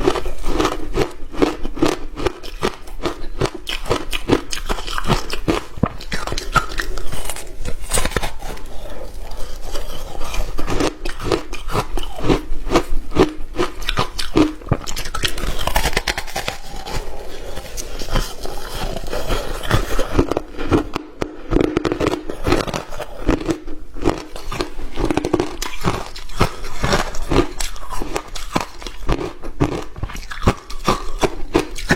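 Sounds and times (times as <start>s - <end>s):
ice being chewed: 0.0s - 31.9s.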